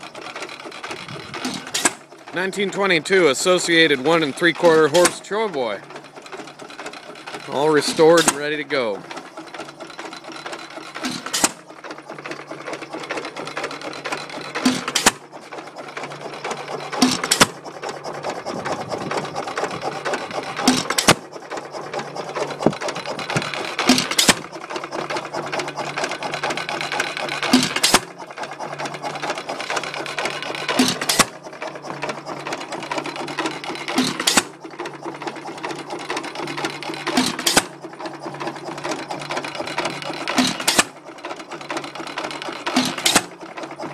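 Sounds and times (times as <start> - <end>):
engine mechanical clatter: 0.0 - 43.9.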